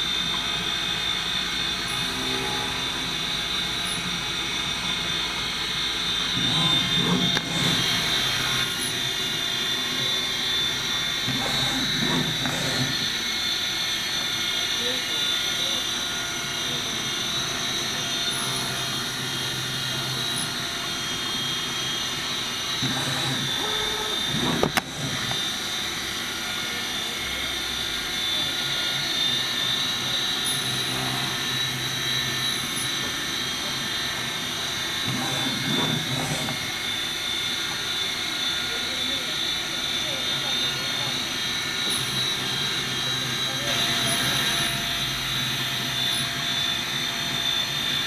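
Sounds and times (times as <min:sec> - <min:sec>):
milling spindle whine: 0:00.0 - 0:48.0.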